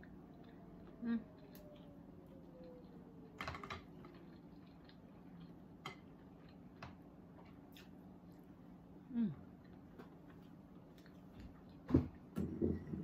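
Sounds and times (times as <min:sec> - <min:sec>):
chewing clicks and smacks: 0:00.0 - 0:08.5, 0:09.6 - 0:11.9
low steady hum: 0:00.0 - 0:13.0.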